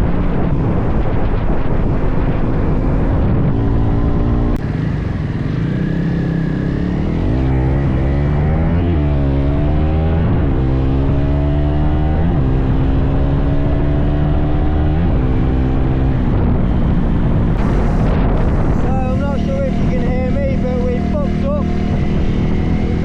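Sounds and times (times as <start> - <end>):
motorcycle engine shifting gears: 0.0 - 23.0.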